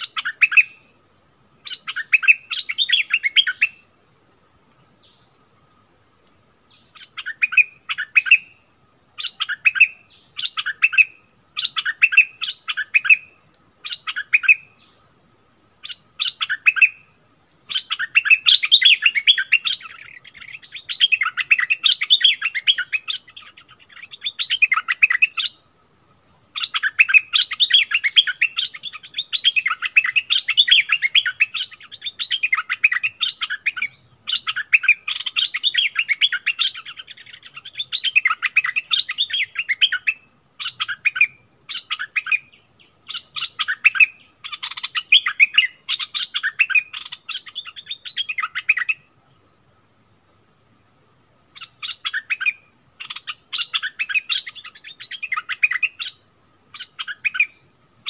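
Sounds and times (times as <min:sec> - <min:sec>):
birds singing chattering phrases: 0:00.0 - 0:58.0.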